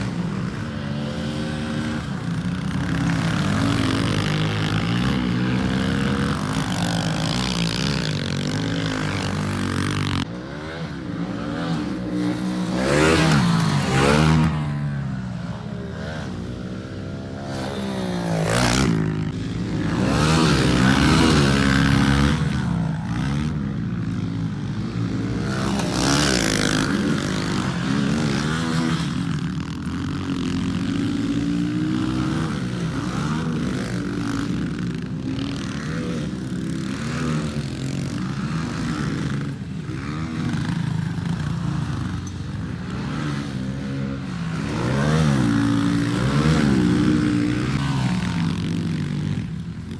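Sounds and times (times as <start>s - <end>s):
motorbike engine revving: 0.0s - 49.9s.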